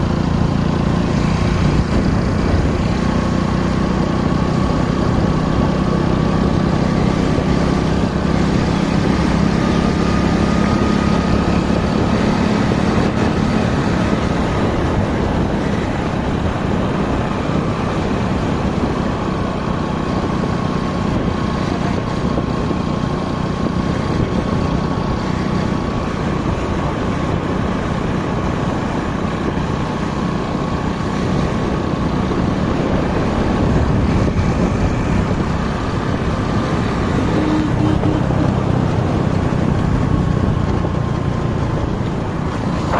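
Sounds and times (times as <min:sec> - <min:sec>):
motorcycle engine running: 0:00.0 - 0:42.9
road noise: 0:00.0 - 0:42.9
wind rushing over microphone: 0:00.0 - 0:42.9.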